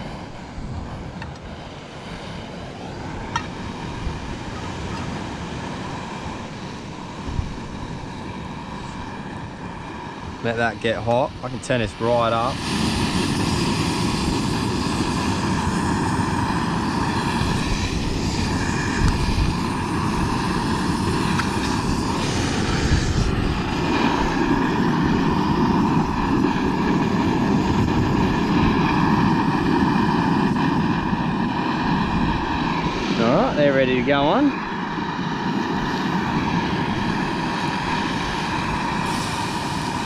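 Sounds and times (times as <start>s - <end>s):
gas burner flame hissing: 0.0s - 40.0s.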